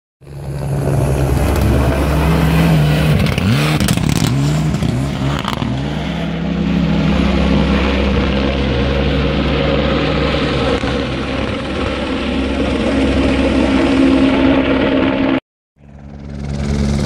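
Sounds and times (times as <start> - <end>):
helicopter drone: 0.2 - 17.0.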